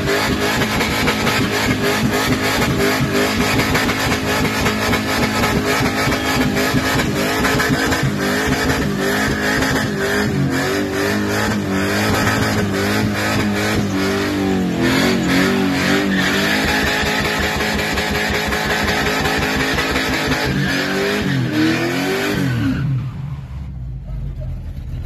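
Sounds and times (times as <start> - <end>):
car engine revving: 0.0 - 23.7.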